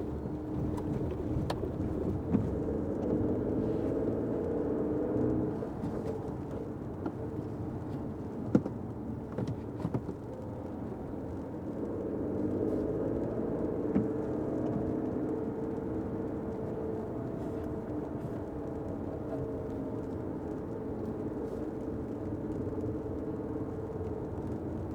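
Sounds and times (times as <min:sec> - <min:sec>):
car cabin road and engine rumble: 0:00.0 - 0:24.9.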